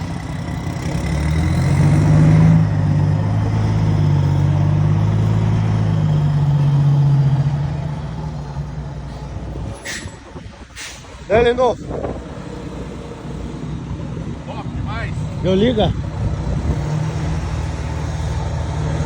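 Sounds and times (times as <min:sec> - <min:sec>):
diesel truck engine passing: 0:00.0 - 0:19.0.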